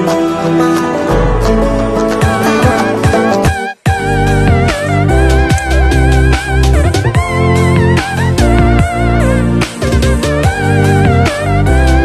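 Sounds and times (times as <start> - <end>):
electronic music with bass: 0.0 - 12.0.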